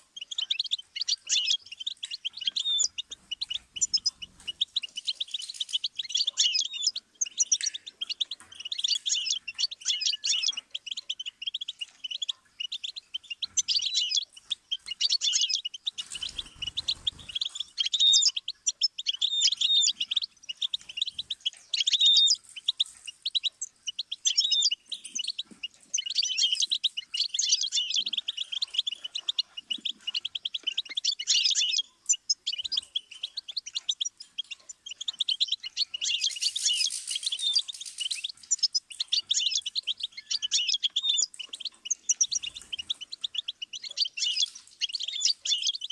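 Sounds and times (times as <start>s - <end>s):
finch twittering song: 0.0s - 45.9s.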